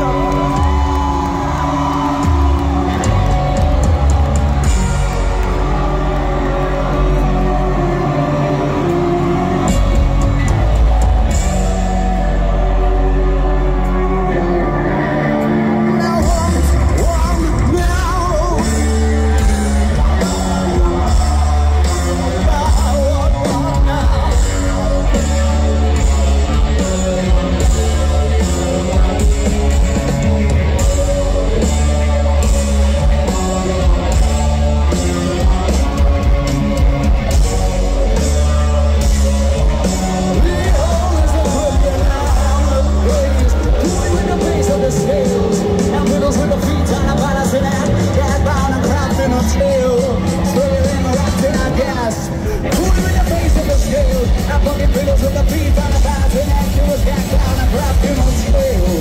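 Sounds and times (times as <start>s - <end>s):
hard-hit drums: 0.0s - 14.3s, 16.1s - 59.0s
heavy bass: 0.0s - 59.0s
person singing: 0.0s - 59.0s
rock band playing live: 0.0s - 59.0s.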